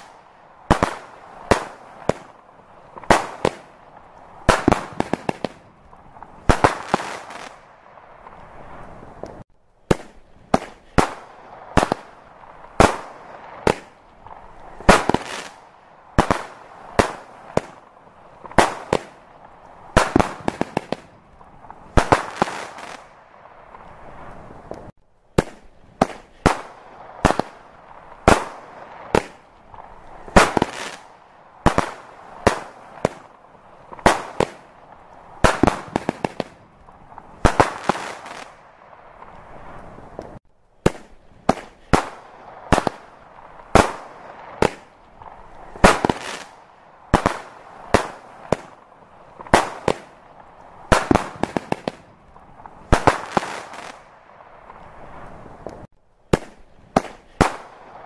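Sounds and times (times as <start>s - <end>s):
fireworks bangs: 0.0s - 58.0s.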